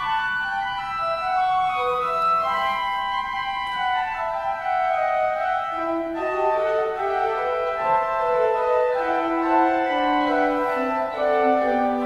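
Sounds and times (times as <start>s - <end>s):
organ music: 0.0s - 12.0s.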